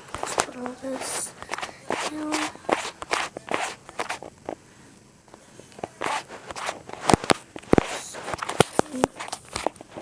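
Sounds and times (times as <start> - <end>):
scraping and rustling: 0.2 - 4.6, 5.8 - 10.0.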